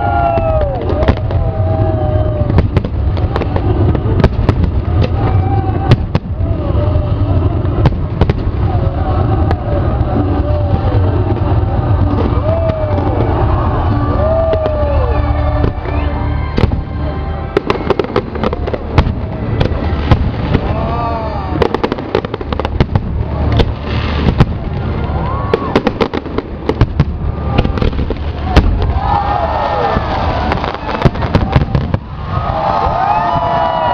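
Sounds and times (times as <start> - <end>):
fireworks bangs and crackles: 0.0 - 33.9
low rumble: 0.0 - 33.9.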